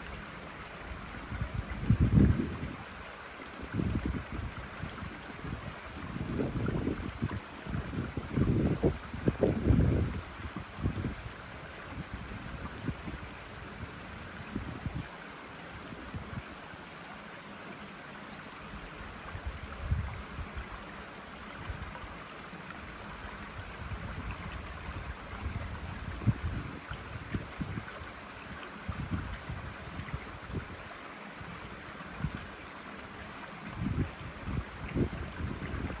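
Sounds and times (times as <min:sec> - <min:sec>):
wind buffeting microphone: 0:00.9 - 0:03.0, 0:03.6 - 0:15.1, 0:15.8 - 0:16.5, 0:18.8 - 0:22.2, 0:22.8 - 0:32.6, 0:33.6 - 0:36.0.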